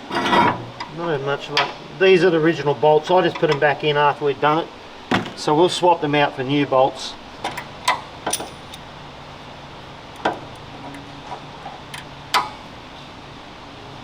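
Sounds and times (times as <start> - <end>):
low workshop hum: 0.0 - 14.0.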